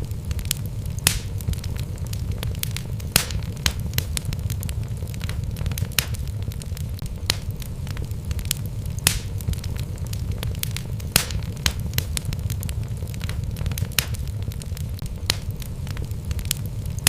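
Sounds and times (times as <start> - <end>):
fire flames rumbling: 0.0 - 17.0
logs crackling and popping: 0.0 - 17.0.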